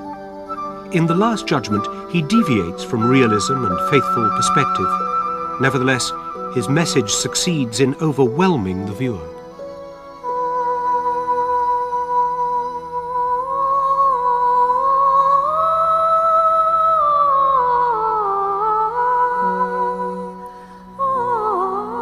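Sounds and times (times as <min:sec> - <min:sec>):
slow melody of held notes: 0:00.0 - 0:22.0.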